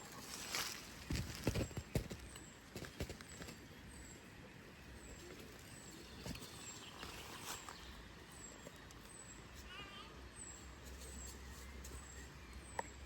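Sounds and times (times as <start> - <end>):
faint forest ambience: 0.0 - 13.0
bird chirping: 0.5 - 13.0.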